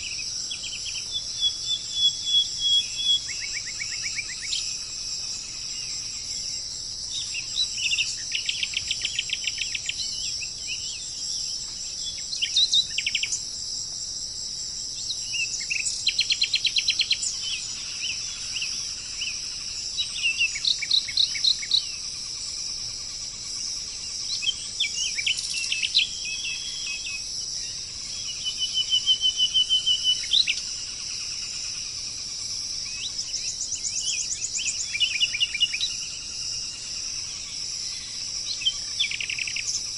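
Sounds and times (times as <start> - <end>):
birds singing trills: 0.0 - 39.9
insects chorus: 0.0 - 39.9.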